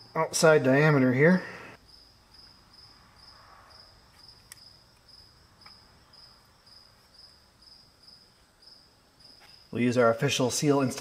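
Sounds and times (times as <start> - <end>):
cricket chirping: 1.7 - 11.0.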